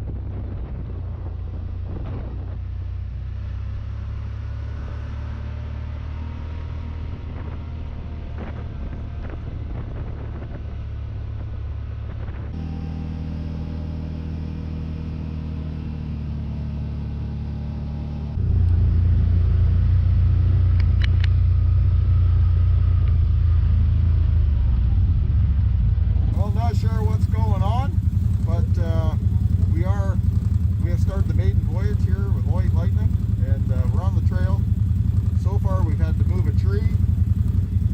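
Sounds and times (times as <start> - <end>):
off-road vehicle engines rumbling: 0.0 - 37.9.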